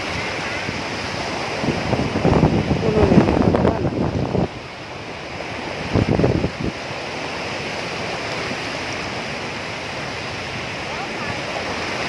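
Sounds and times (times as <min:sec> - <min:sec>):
sea surf rushing: 0:00.0 - 0:12.0.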